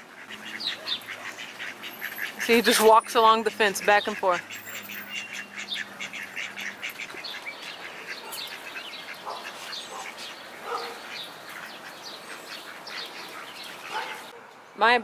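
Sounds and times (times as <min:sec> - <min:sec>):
ducks quacking softly: 0:00.0 - 0:14.4.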